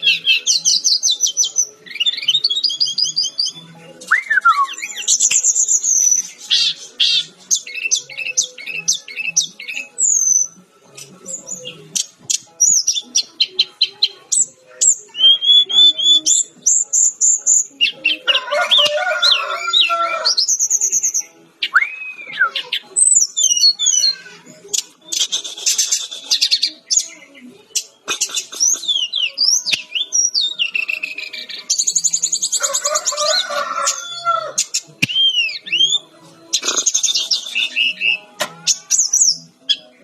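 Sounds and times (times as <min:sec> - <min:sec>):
flycatcher singing: 0:00.0 - 0:40.0.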